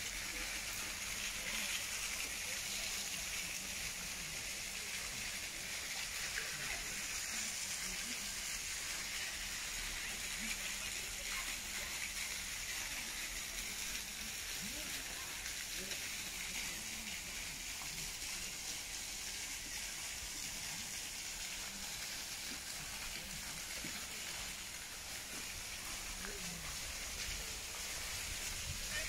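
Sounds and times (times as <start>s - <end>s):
faint distant voices: 0.0s - 29.0s
running water rushing: 0.0s - 29.0s.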